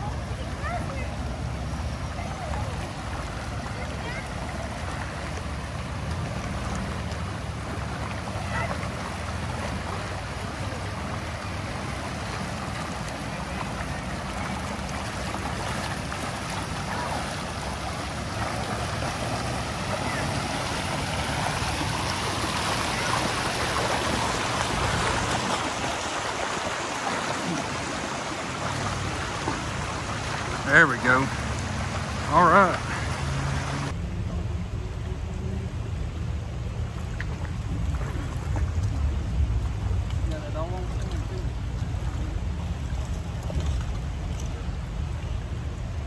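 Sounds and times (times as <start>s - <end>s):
legs wading through water: 0.0s - 34.0s, 34.8s - 46.0s
river water rushing over rocks: 0.0s - 46.0s.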